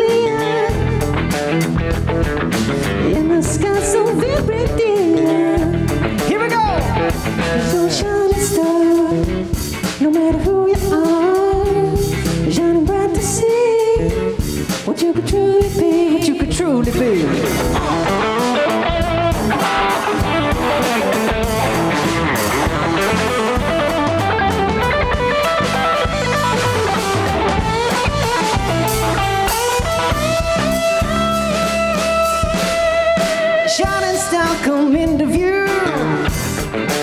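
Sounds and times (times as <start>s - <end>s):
bass guitar: 0.0s - 37.0s
drum kit: 0.0s - 37.0s
electric guitar lead: 0.0s - 37.0s.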